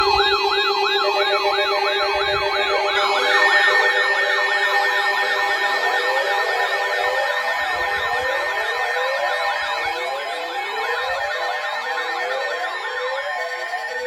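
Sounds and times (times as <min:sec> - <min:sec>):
electronic sirens yelping: 0:00.0 - 0:14.0.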